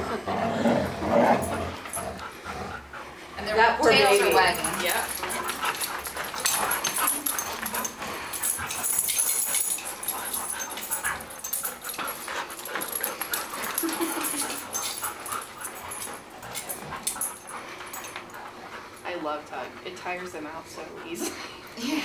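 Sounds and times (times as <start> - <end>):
dogs growling: 0.0 - 19.0
dogs whining: 0.0 - 19.0
dogs scuffling: 1.2 - 21.4.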